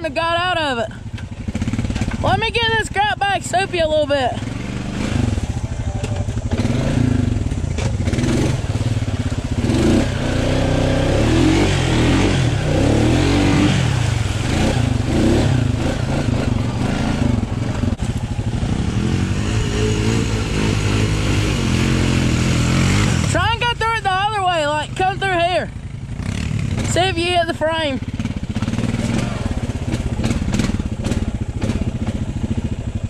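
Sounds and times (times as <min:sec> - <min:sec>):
atv engine revving: 0:00.0 - 0:33.0
tyres churning through mud: 0:00.0 - 0:33.0.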